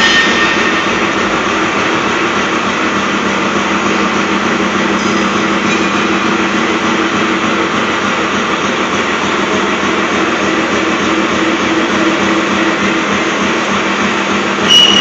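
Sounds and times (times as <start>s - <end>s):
milling machine droning: 0.0s - 15.0s.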